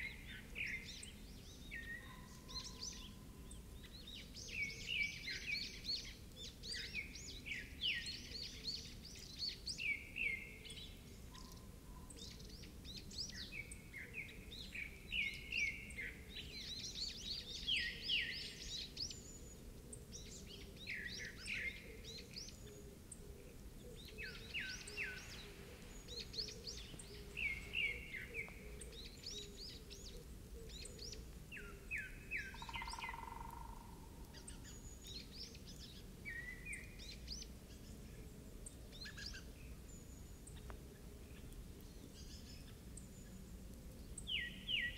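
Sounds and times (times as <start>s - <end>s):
faint outdoor ambience: 0.0s - 44.9s
small birds chirping: 0.0s - 44.9s.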